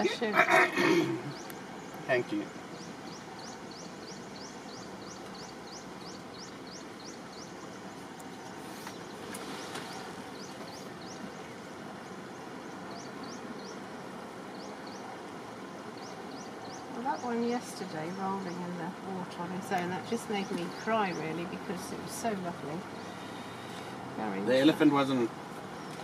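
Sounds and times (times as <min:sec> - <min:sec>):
background hiss: 0:00.0 - 0:26.0
bird chirping: 0:01.0 - 0:23.8.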